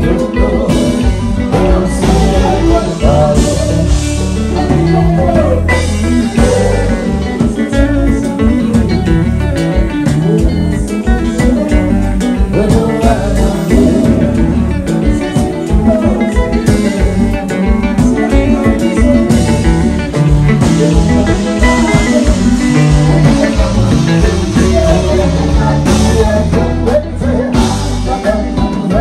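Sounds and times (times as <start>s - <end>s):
drum kit: 0.0s - 29.0s
electric bass guitar: 0.0s - 29.0s
live band playing: 0.0s - 29.0s.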